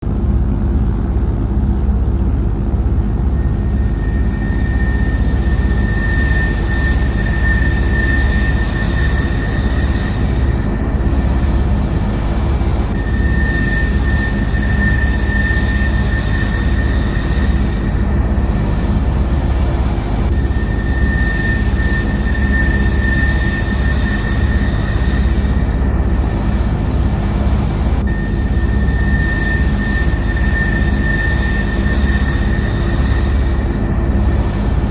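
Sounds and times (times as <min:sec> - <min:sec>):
aircraft engine drone: 0:00.0 - 0:34.9.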